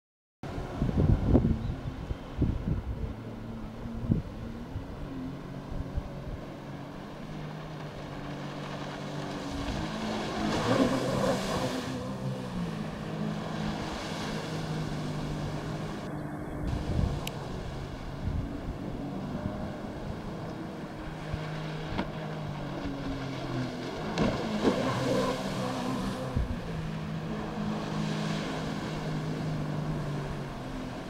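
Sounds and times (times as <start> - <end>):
jet ski engine running: 0.5 - 31.0.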